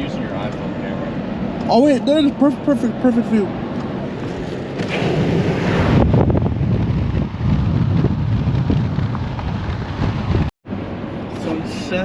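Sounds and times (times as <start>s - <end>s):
car road and wind rumble: 0.0s - 12.0s.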